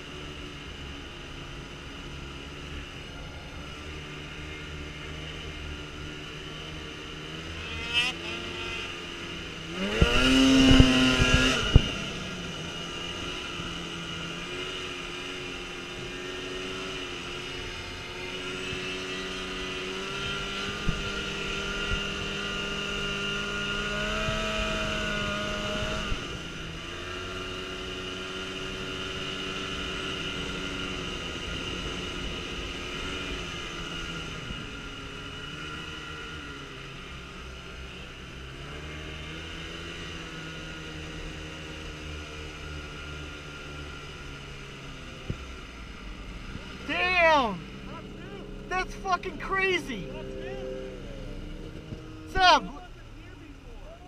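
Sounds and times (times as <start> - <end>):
snowmobile engine revving: 2.0 - 54.0.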